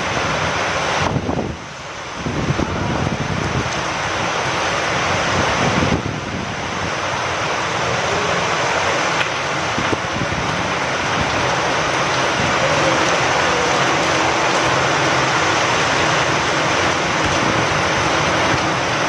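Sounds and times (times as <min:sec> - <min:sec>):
steady rain falling: 0:00.0 - 0:19.0
wind blowing: 0:00.0 - 0:19.0.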